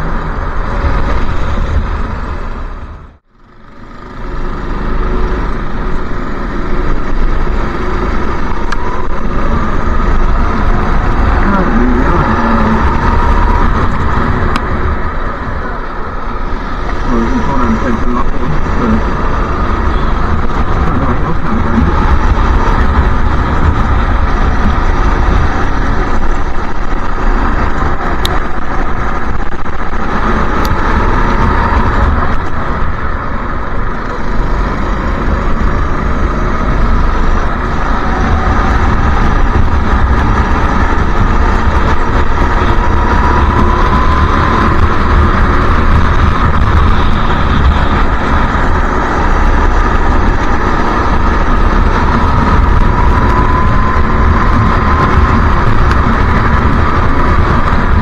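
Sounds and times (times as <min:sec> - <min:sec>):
go-kart engines racing: 0:00.0 - 0:58.0.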